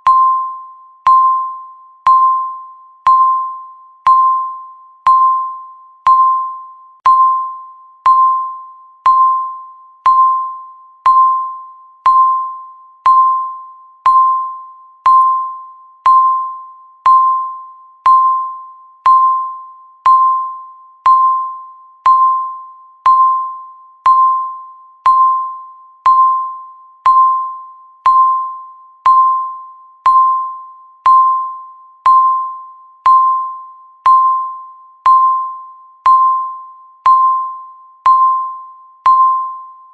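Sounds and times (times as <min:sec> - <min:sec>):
countdown timer beeps: 0:00.0 - 0:39.9.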